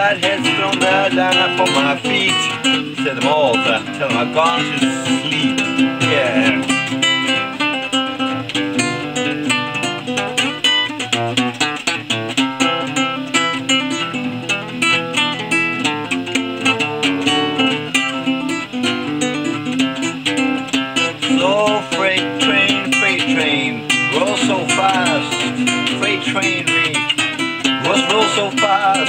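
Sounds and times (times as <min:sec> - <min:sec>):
classical guitar picking: 0:00.0 - 0:29.0.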